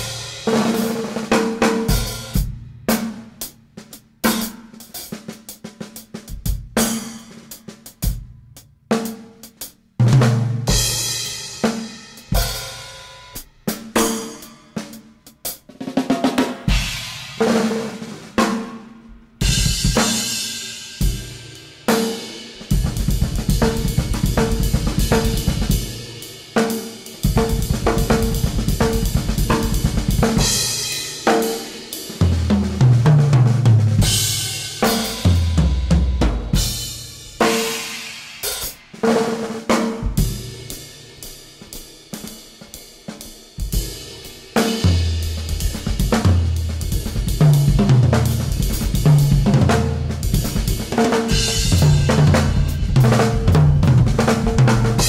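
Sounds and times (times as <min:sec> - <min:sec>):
drum kit playing: 0:00.0 - 0:55.0.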